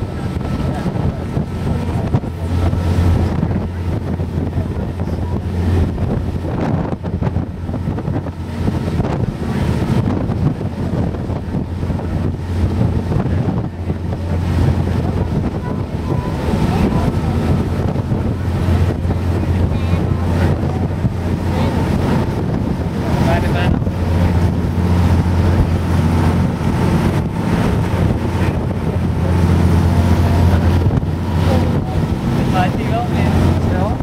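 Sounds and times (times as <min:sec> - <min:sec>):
boat engine droning: 0:00.0 - 0:34.0
water rushing past: 0:00.0 - 0:34.0
wind buffeting microphone: 0:00.0 - 0:34.0.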